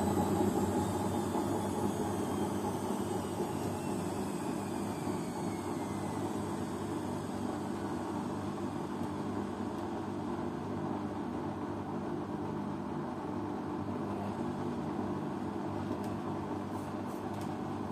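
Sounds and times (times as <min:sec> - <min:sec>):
washing machine running: 0:00.0 - 0:17.9.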